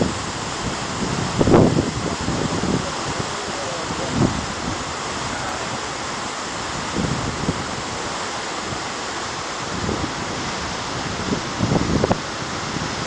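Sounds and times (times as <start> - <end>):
waterfall rushing onto rocks: 0.0 - 13.0.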